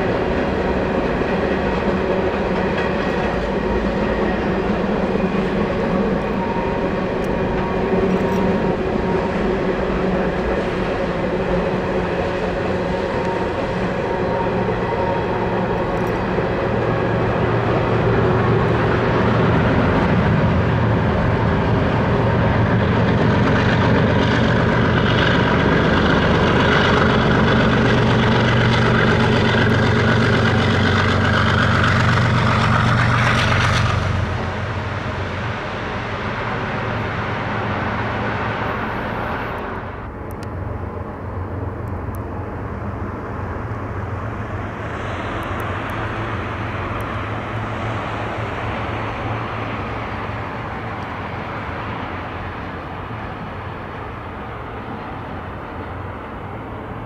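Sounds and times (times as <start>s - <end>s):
diesel locomotive engine: 0.0s - 57.0s
train wheels rumbling on rail: 0.0s - 57.0s.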